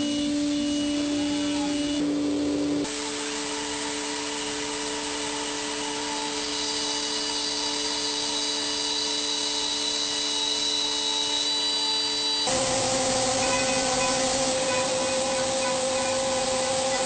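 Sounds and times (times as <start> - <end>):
motor-driven tool whining: 3.3 - 17.0.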